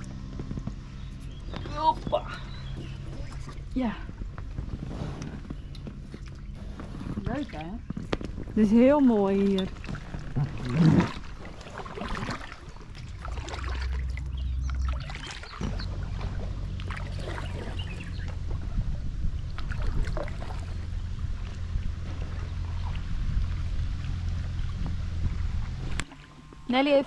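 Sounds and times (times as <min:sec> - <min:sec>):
low steady rumble: 0:00.0 - 0:27.0
paddles splashing in water: 0:00.0 - 0:27.0.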